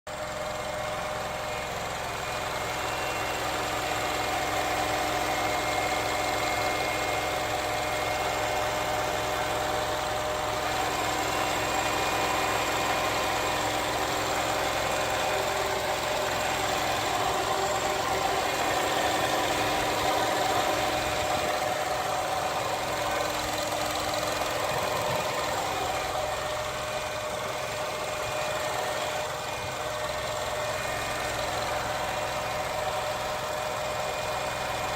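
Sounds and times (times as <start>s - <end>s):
car engine running: 0.1s - 34.9s.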